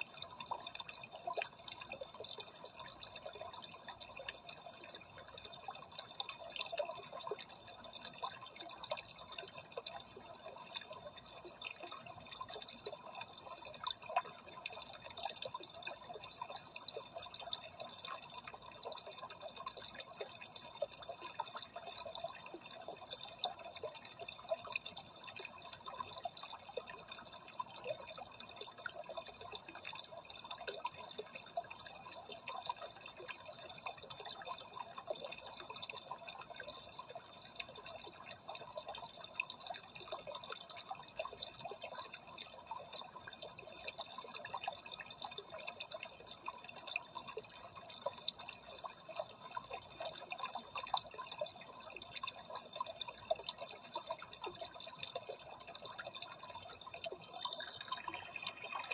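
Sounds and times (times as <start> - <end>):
aquarium water trickling and splashing: 0.0 - 58.9.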